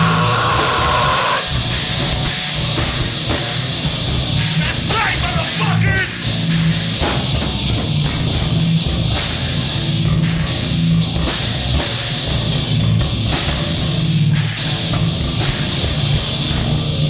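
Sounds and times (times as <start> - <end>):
bass guitar: 0.0 - 17.0
distorted electric guitar: 0.0 - 17.0
drums: 0.0 - 17.0.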